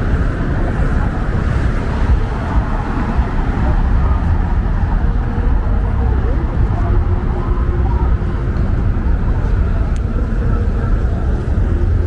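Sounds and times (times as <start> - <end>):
cars driving with low rumble: 0.0 - 12.0.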